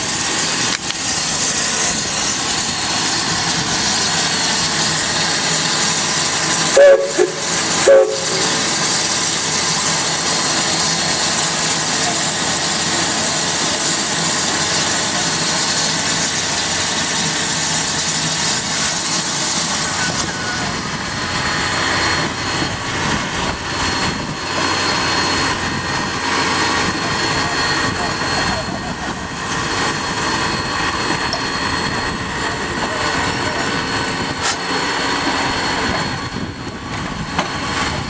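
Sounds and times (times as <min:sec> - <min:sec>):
steam locomotive releasing steam: 0:00.0 - 0:38.0.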